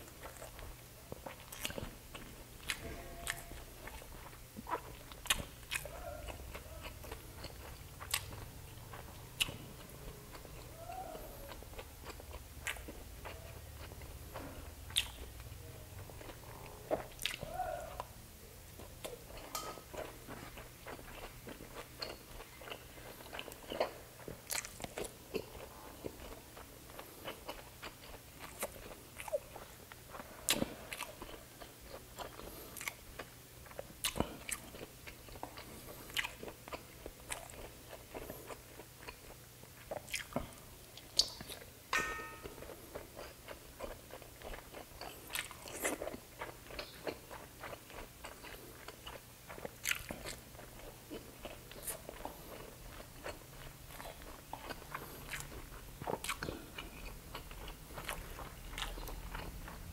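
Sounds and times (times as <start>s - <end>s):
chewing and biting meat: 0.0s - 18.1s, 18.8s - 41.7s, 42.6s - 59.9s.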